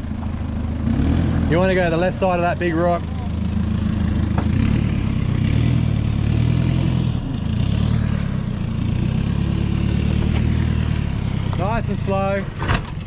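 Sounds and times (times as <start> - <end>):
suv engine low rumble: 0.0 - 13.0.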